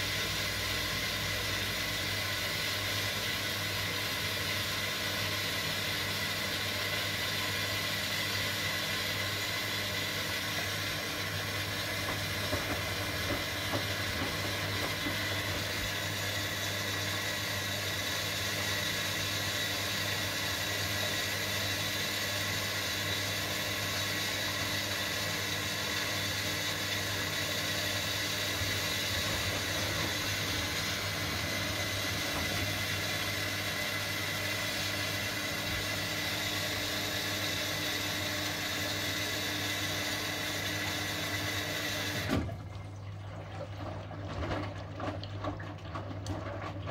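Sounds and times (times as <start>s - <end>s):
washing machine motor hum: 0.0s - 46.9s.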